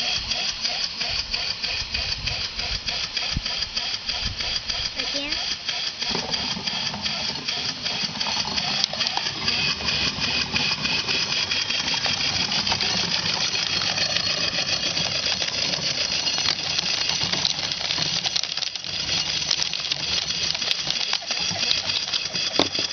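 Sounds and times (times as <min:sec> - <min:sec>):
corn sheller clattering: 0:00.0 - 0:22.9
wavering high whine: 0:00.0 - 0:22.9.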